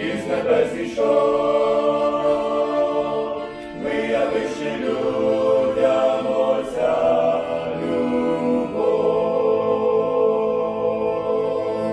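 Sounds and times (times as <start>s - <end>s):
male choir singing a carol: 0.0s - 11.9s.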